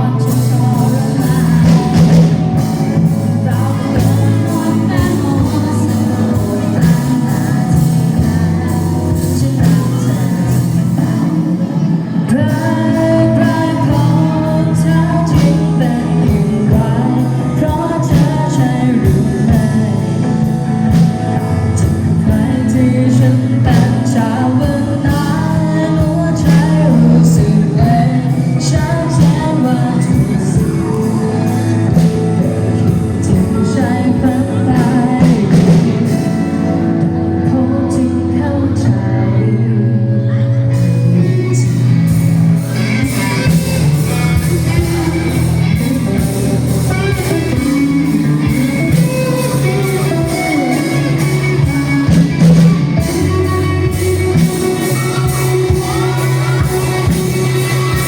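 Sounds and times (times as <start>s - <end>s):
lead singer singing: 0.0s - 58.0s
rock band playing: 0.0s - 58.0s.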